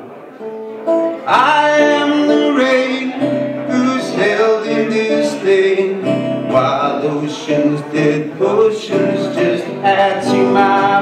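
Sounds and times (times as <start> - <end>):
acoustic guitar picking: 0.3 - 11.0
guitar strumming: 0.3 - 11.0
man singing: 1.1 - 11.0.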